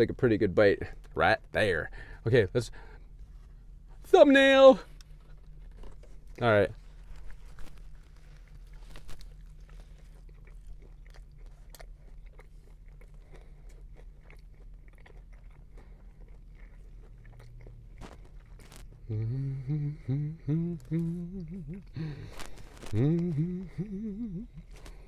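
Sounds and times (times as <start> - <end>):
crunching and chewing food: 4.7 - 25.0.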